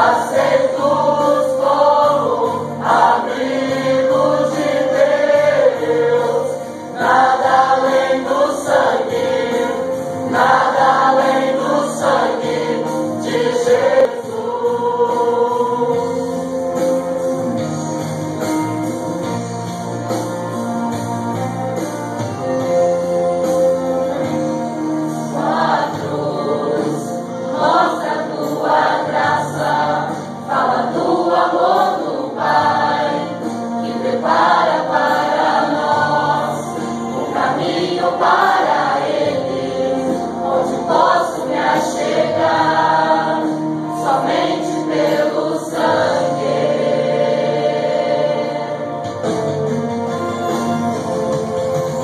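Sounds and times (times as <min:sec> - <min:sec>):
choir singing a hymn: 0:00.0 - 0:17.8, 0:23.0 - 0:49.7
sustained instrumental accompaniment: 0:00.0 - 0:52.0.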